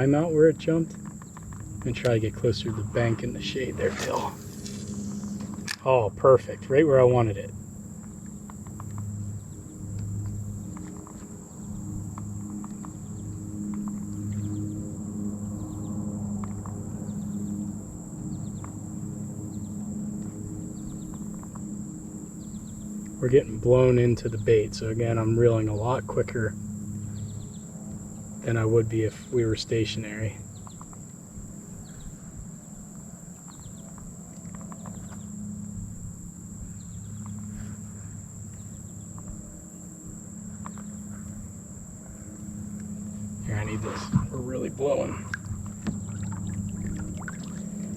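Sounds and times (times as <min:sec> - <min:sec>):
small ticks and chirps: 0:00.0 - 0:02.3, 0:04.0 - 0:05.9, 0:07.5 - 0:47.9
crickets trilling: 0:00.0 - 0:47.9
high-pitched insect chorus: 0:00.0 - 0:47.9
low rumble of wind: 0:00.0 - 0:47.9
low steady hum: 0:00.0 - 0:47.9.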